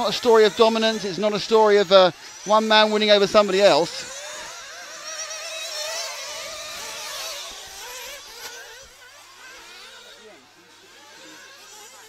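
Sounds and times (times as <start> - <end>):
rc car engines buzzing: 0.0 - 12.0.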